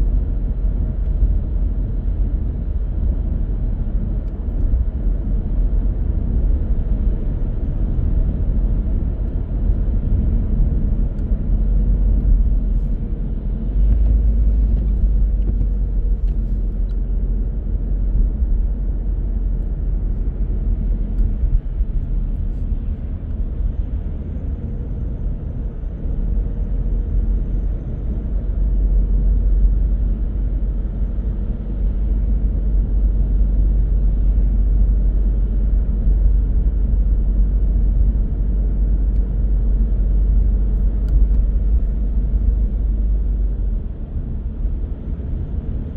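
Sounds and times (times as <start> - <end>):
car driving on road: 0.0 - 45.9.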